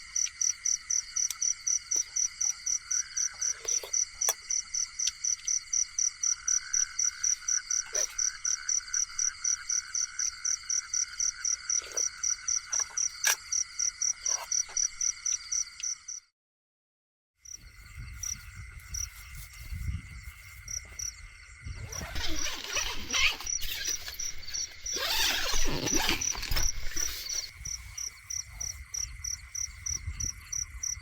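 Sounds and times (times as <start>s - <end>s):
pulsing high-pitched insect call: 0.0s - 16.3s, 17.5s - 31.0s.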